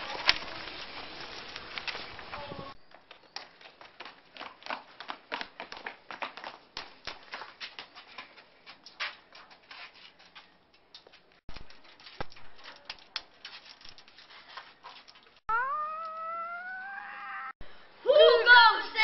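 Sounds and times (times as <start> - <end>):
children's footsteps on pavement: 0.0 - 15.4.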